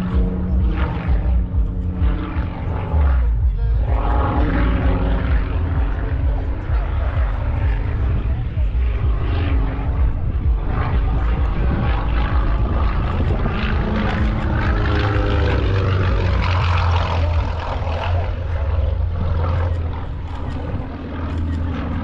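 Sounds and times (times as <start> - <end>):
heavy low rumble: 0.0 - 22.0
propeller airplane engine: 0.0 - 22.0.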